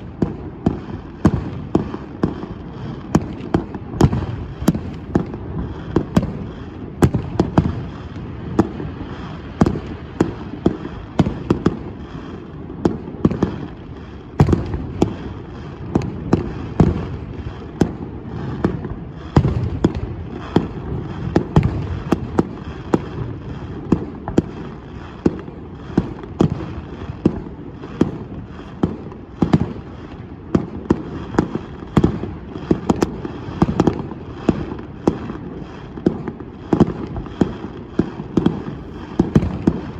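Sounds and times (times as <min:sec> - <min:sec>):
fireworks bangs and booms: 0:00.0 - 0:39.9.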